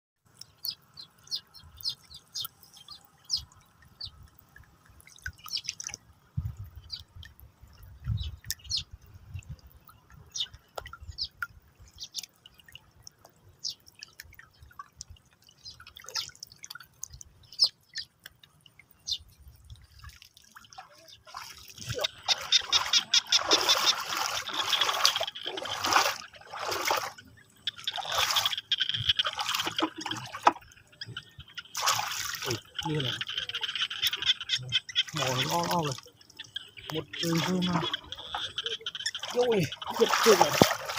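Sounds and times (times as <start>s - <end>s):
shallow flowing water: 0.2s - 40.9s
water drips and trickles: 0.2s - 40.9s
feet wading through water: 0.8s - 40.9s.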